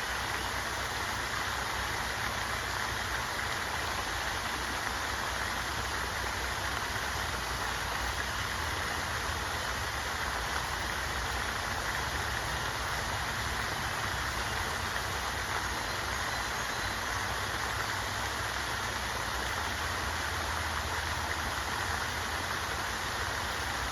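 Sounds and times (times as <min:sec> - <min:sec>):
rushing water: 0:00.0 - 0:23.9.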